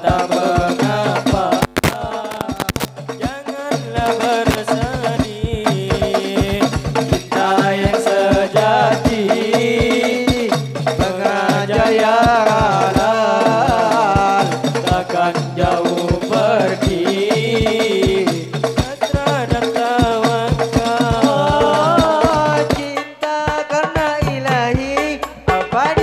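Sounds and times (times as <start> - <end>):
frame drums beating: 0.0 - 26.0.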